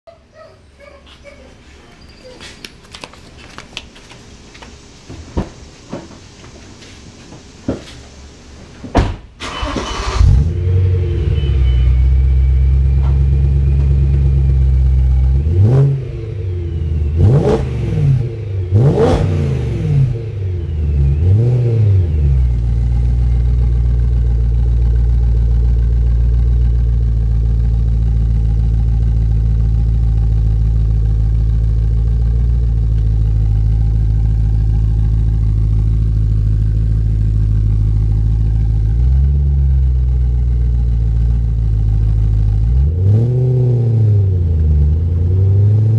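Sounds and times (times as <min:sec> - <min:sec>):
car engine idling and revving: 0:04.4 - 0:45.9.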